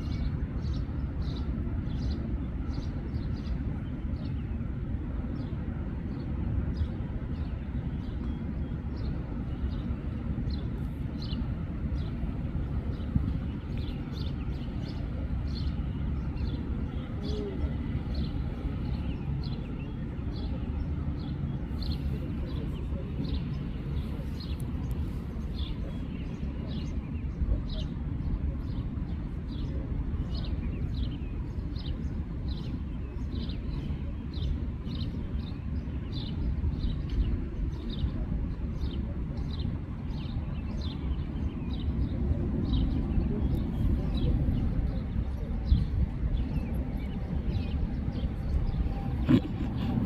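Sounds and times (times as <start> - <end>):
small birds chirping: 0.0 - 50.0
steady low rumble: 0.0 - 50.0.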